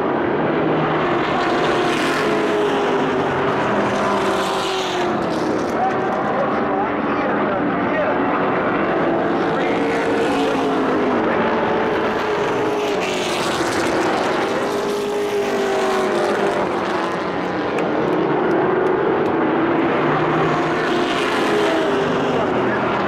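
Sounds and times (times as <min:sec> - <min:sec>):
race truck engines: 0:00.0 - 0:23.0.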